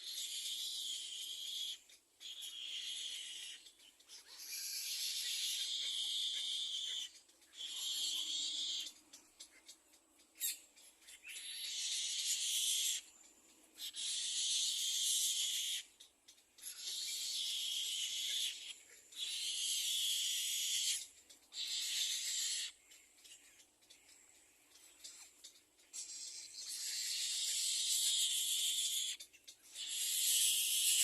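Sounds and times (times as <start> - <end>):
egret chicks rasping: 0.0 - 31.0.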